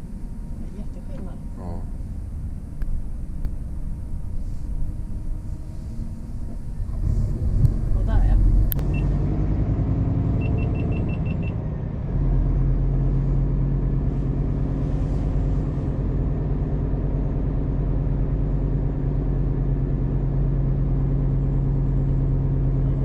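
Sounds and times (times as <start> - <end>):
truck diesel engine droning: 0.0 - 23.0.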